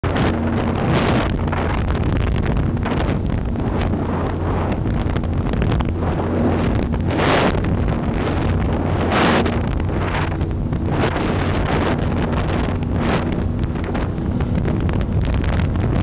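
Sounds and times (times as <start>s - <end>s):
powerboat engines droning: 0.0s - 16.0s
wind buffeting microphone: 0.0s - 16.0s.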